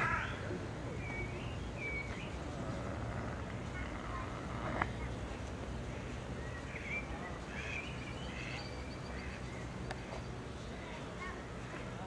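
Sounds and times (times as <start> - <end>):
faint bird twittering: 0.0 - 5.2, 5.9 - 11.0
small birds chirping: 0.0 - 11.3
low outdoor rumble: 0.0 - 12.0.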